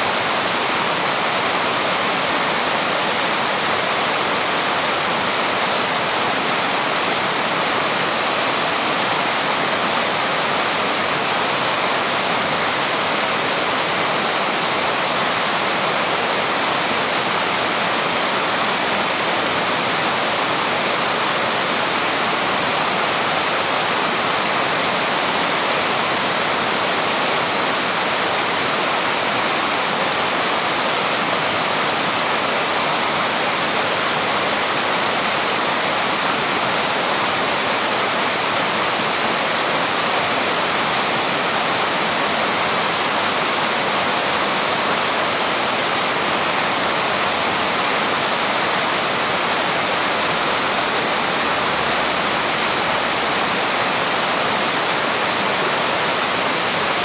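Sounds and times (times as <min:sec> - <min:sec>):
waterfall rushing water: 0:00.0 - 0:57.0.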